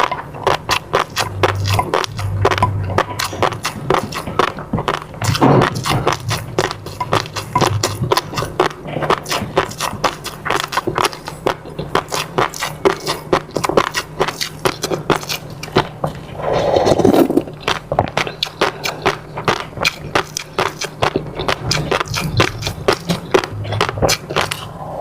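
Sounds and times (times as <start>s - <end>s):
chewing and mouth clicks: 0.0s - 24.8s.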